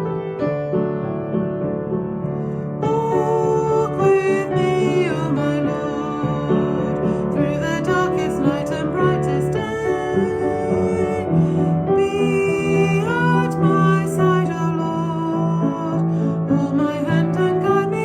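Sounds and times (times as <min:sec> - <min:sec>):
piano accompaniment: 0:00.0 - 0:18.0
person singing a hymn: 0:02.5 - 0:18.0.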